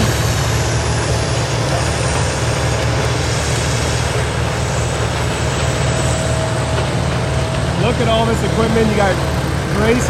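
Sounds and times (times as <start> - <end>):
machinery hiss: 0.0 - 10.0
wood grinder engine drone: 0.0 - 10.0.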